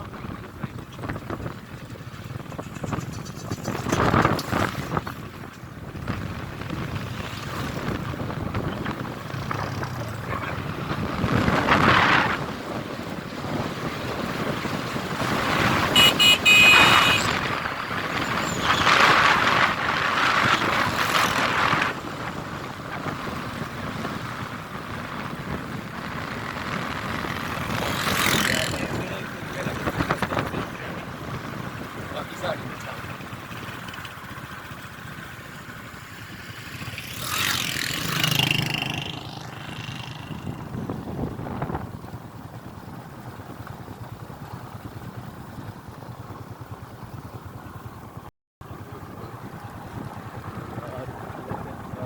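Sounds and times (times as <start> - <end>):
vehicle road noise: 0.0 - 52.0
wind buffeting microphone: 0.0 - 52.0.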